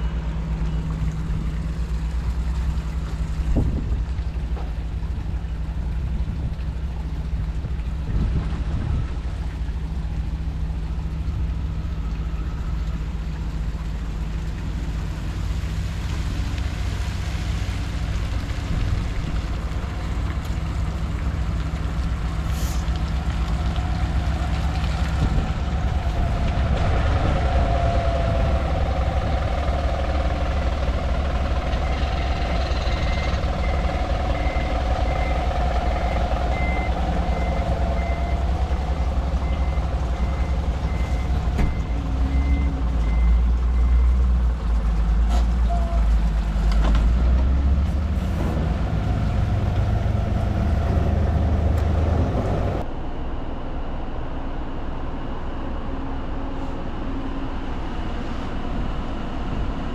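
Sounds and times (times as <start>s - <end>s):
large vehicle engine rumble: 0.0s - 59.9s.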